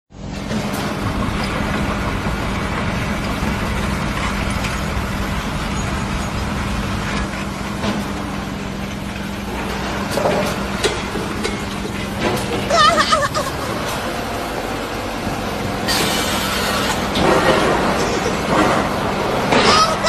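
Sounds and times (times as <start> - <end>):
large engine humming: 0.1 - 20.0.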